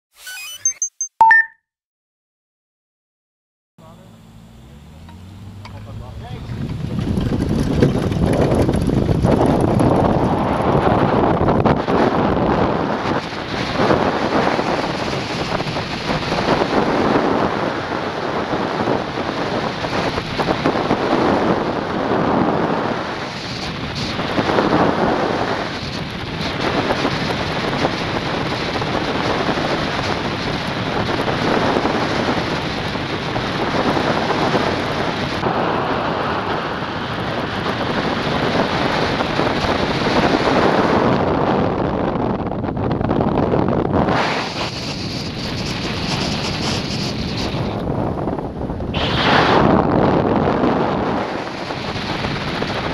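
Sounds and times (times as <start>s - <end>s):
wind noise on microphone: 5.2s - 52.9s.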